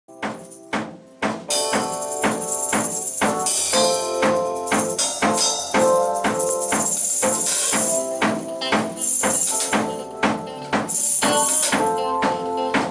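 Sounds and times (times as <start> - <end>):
drum kit beat: 0.1 - 12.9
electric keyboard chords: 0.1 - 12.9.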